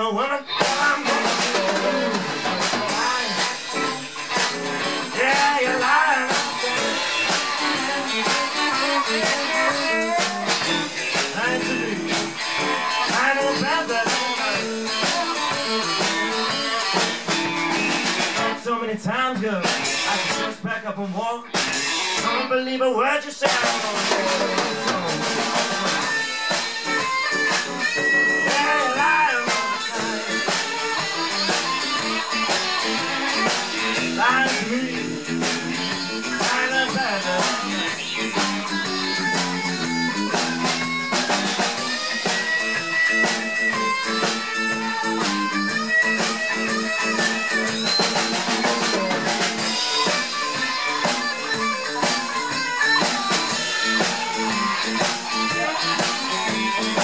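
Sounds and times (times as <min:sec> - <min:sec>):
lead electric guitar melody: 0:00.0 - 0:18.6, 0:23.8 - 0:57.0
drum kit: 0:00.0 - 0:20.8, 0:21.4 - 0:22.5, 0:23.4 - 0:57.0
rhythm guitar: 0:00.0 - 0:57.0.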